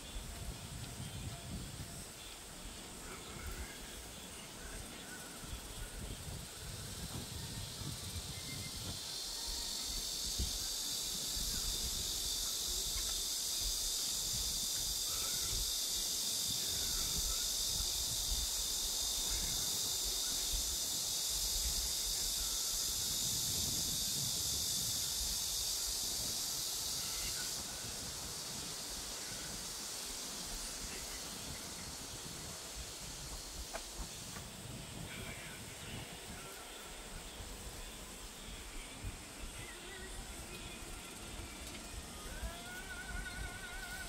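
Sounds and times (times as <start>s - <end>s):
cicadas chorus: 0.0s - 44.0s.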